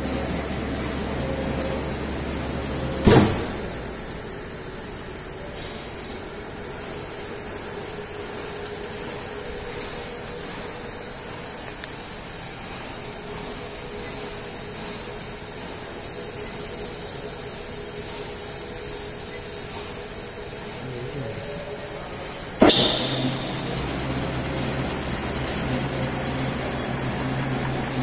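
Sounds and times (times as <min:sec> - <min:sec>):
stamping press running: 0:00.0 - 0:20.8, 0:21.4 - 0:28.0.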